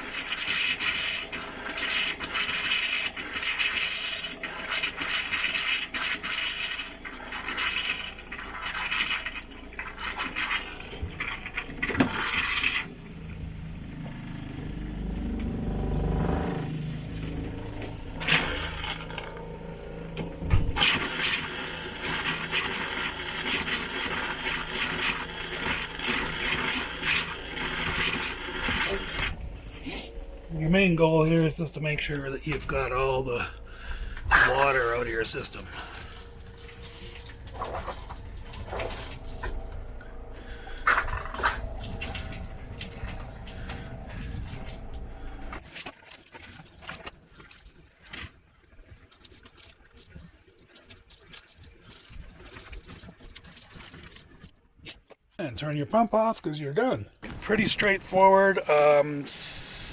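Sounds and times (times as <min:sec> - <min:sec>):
liquid sputtering from plumbing: 0:00.0 - 0:55.0, 0:57.2 - 0:59.9.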